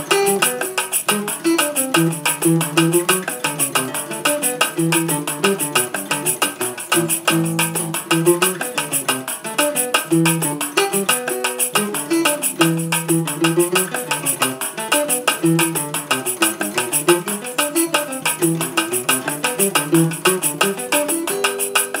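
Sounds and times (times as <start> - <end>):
acoustic string instrument playing: 0.0 - 22.0
shaker rhythm: 0.0 - 22.0.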